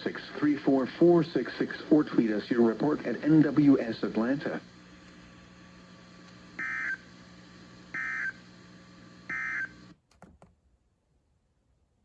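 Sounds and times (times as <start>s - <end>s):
steady broadcast hum: 0.0s - 10.0s.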